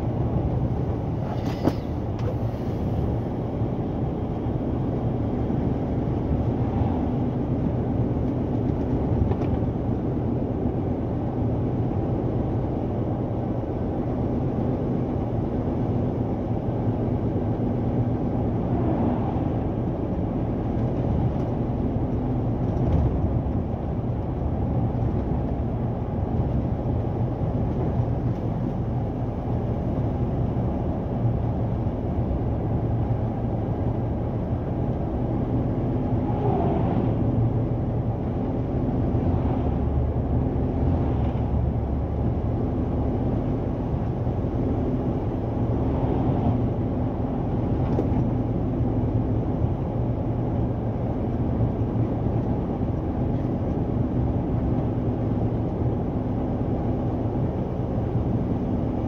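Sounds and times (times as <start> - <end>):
road noise: 0.0 - 59.0.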